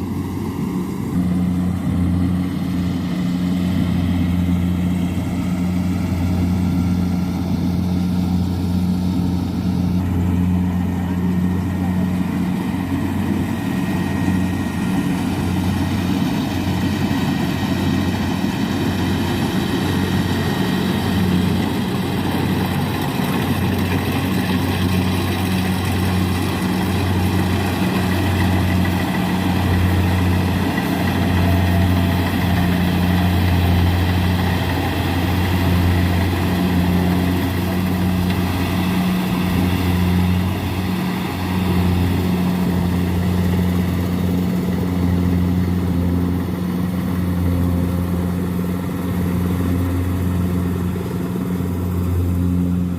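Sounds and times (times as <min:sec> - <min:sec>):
combine harvester engine droning: 0:00.0 - 0:52.9.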